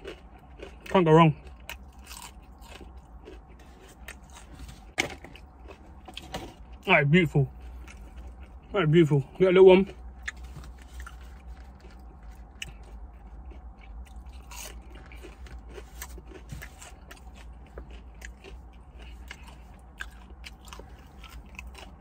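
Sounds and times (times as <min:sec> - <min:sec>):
person chewing crunchy food: 0:00.0 - 0:08.8, 0:09.8 - 0:22.0.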